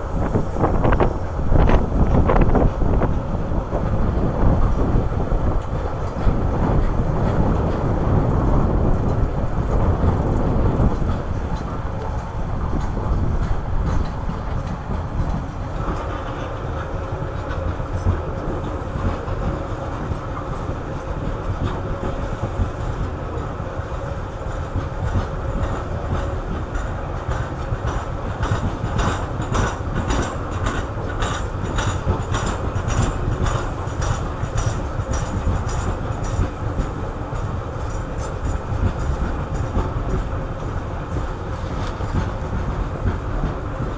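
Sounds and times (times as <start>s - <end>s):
freight train rolling past: 0.0s - 43.9s
wheels clicking over rail joints: 0.0s - 43.9s.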